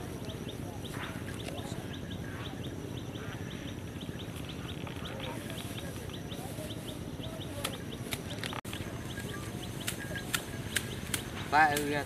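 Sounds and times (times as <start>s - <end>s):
bird chirping: 0.0s - 12.0s
low background noise: 0.0s - 12.0s.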